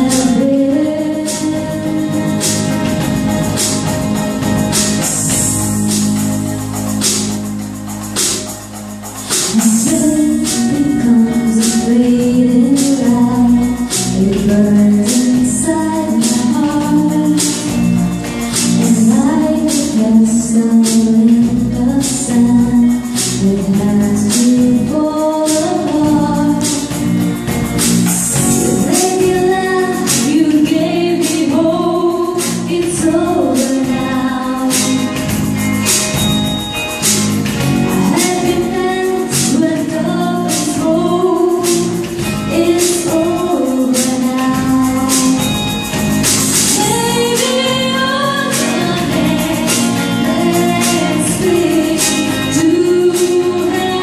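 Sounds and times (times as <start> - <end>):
woman singing: 0.0 - 3.3, 4.9 - 6.0, 9.4 - 27.3, 28.1 - 35.3, 37.8 - 45.8, 46.4 - 54.0
bass guitar: 0.0 - 54.0
drums: 0.0 - 54.0
electric guitar: 0.0 - 54.0
keyboard: 0.0 - 54.0.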